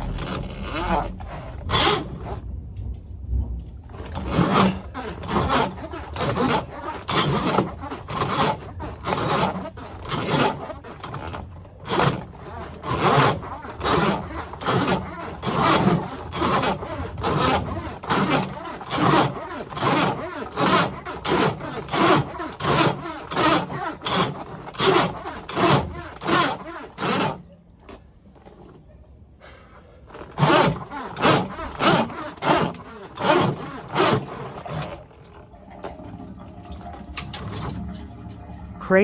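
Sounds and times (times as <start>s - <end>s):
steel cable rasping and scraping: 0.0s - 3.0s, 3.6s - 27.6s, 29.5s - 39.0s.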